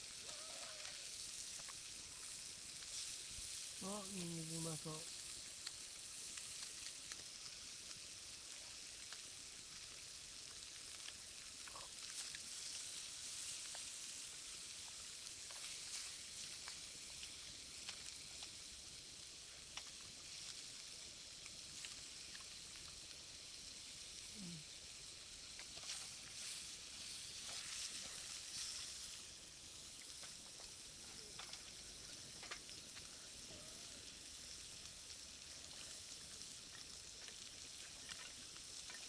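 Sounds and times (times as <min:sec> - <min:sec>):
meat sizzling in a frying pan: 0:00.0 - 0:39.0
wood fire crackling: 0:00.0 - 0:39.0.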